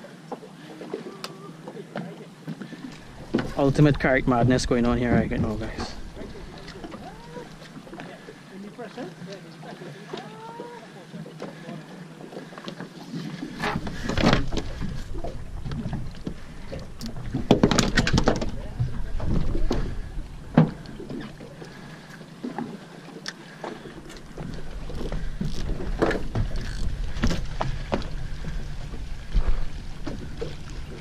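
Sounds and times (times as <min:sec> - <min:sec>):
water and wind wash: 0:00.0 - 0:31.0
water splashes: 0:00.0 - 0:31.0.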